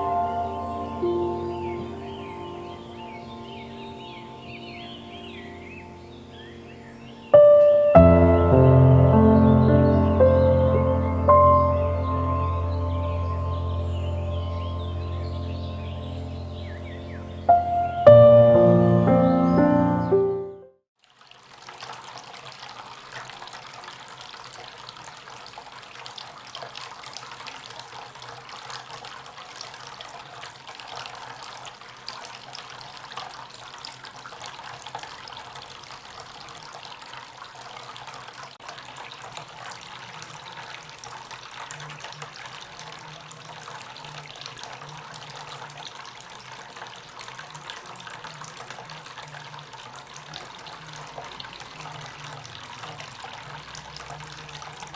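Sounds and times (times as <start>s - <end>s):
fountain water splashing: 0.0s - 20.2s, 21.0s - 54.9s.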